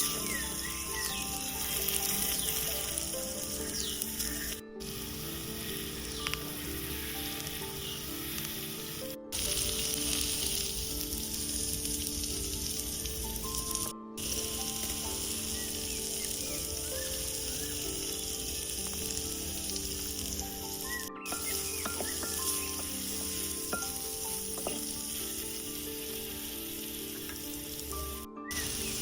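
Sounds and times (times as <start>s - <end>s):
food sizzling in hot oil: 0.0s - 29.0s
soft background music: 0.0s - 29.0s.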